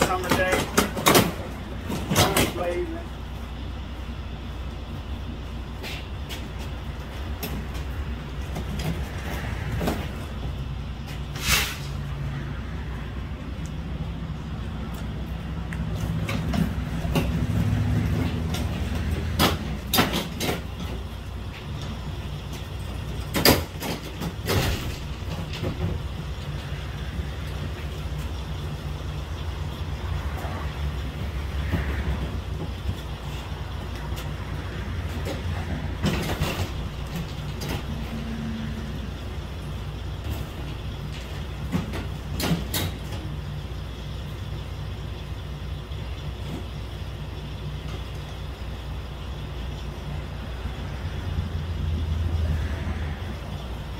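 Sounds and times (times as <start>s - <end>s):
diesel truck engine idling: 0.0s - 53.9s.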